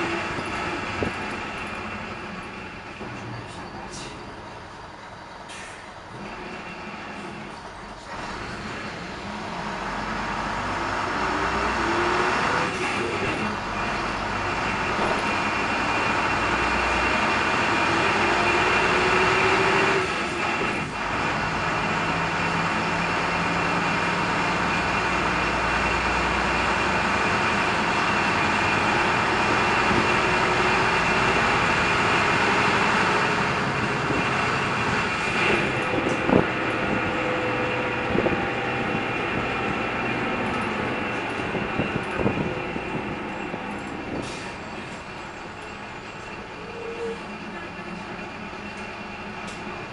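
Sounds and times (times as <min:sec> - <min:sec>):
bus engine running: 0:00.0 - 0:49.9.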